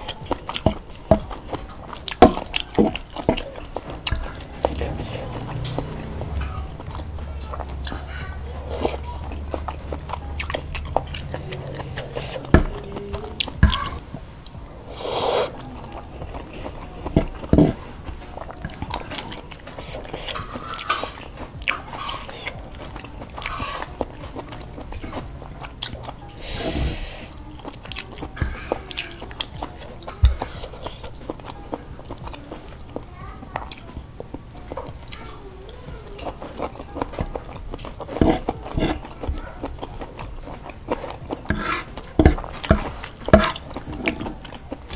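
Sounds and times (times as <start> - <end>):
slurping and chewing: 0.0 - 44.9.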